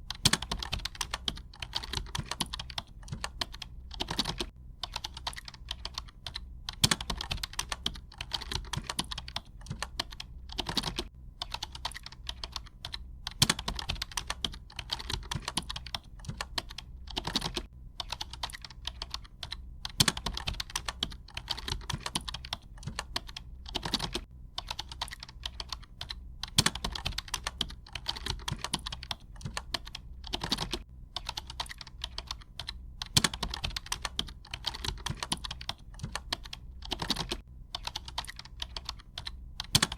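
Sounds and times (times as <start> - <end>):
typing on computer keyboard: 0.0 - 39.9.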